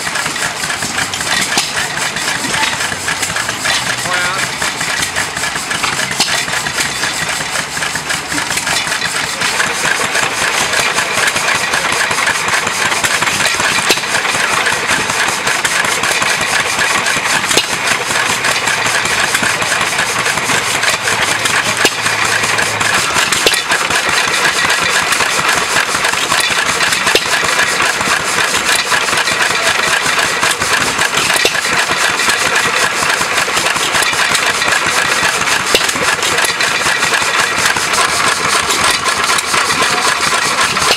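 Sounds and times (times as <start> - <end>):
stationary gas engine running: 0.0 - 40.9
water pump jack: 0.0 - 40.9.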